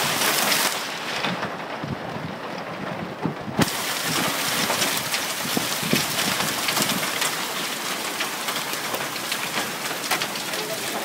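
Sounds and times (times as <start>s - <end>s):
hail pelting down: 0.0s - 11.0s.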